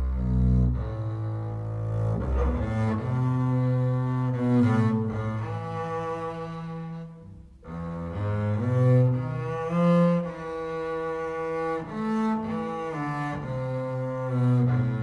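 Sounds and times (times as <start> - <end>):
bowed double bass: 0.0 - 15.0.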